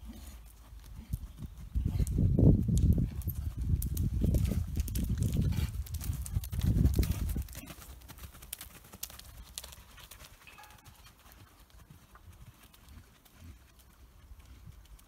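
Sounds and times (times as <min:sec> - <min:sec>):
hoofbeats crunching on loose ground: 0:00.0 - 0:15.0.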